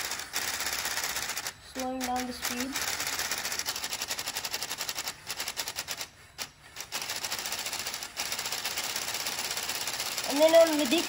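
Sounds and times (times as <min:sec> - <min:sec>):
toy engine pistons rattling: 0:00.0 - 0:11.0.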